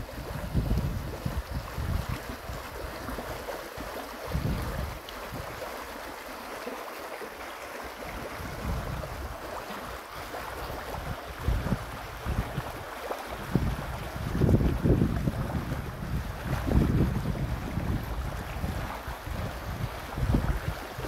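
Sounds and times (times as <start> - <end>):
wind buffeting microphone: 0.0 - 5.7, 8.0 - 21.0
stream bubbling: 0.0 - 21.0.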